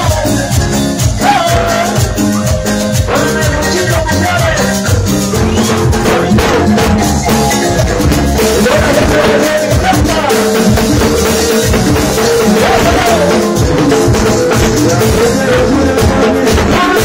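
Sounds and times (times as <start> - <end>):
latin dance band: 0.0 - 17.0
person singing: 0.0 - 17.0.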